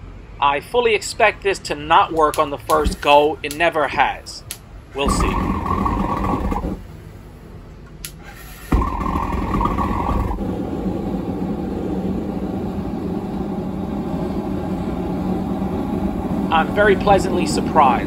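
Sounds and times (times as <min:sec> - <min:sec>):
gas burner roaring: 0:02.0 - 0:18.0.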